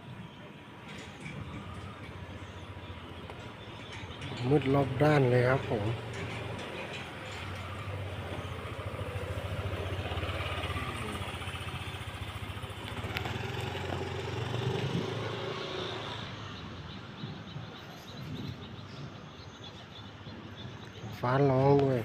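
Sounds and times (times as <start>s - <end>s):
vehicle engines humming: 0.0s - 22.0s.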